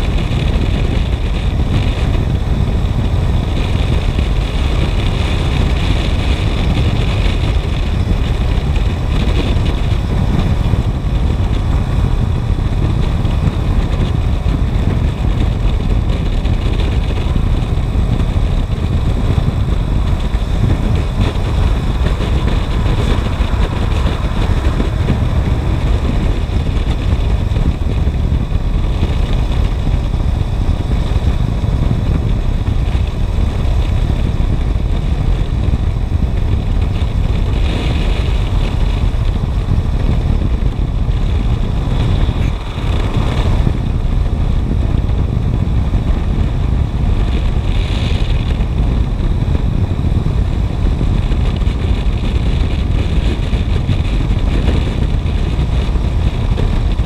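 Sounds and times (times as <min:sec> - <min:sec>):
motorcycle engine cruising: 0:00.0 - 0:57.0
wind rush over microphone: 0:00.0 - 0:57.0.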